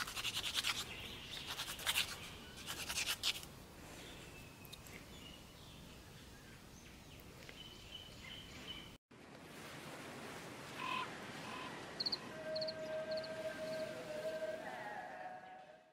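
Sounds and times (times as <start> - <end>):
outdoor background noise: 0.0 - 15.9.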